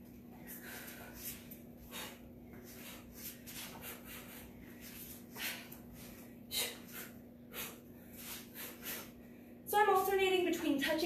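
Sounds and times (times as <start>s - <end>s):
steady low hum: 0.0s - 11.0s
sharp breaths: 0.4s - 9.6s.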